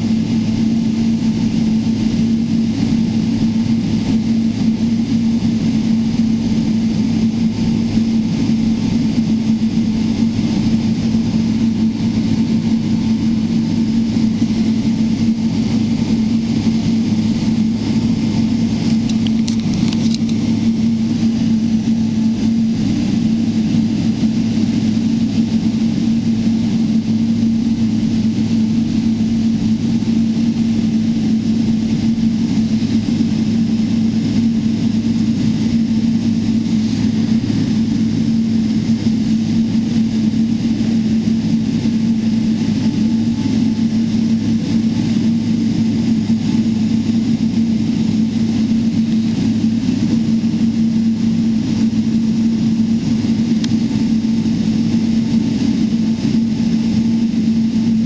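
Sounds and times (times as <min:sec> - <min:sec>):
jet engine cabin drone: 0:00.0 - 0:58.0
rushing air: 0:01.2 - 0:58.0.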